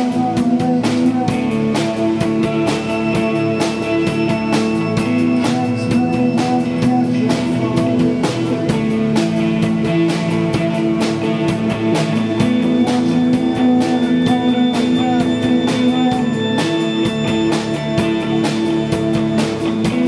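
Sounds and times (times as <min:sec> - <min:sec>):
bass guitar: 0:00.0 - 0:20.0
drum kit beat: 0:00.0 - 0:20.0
electric guitar chords: 0:00.0 - 0:20.0.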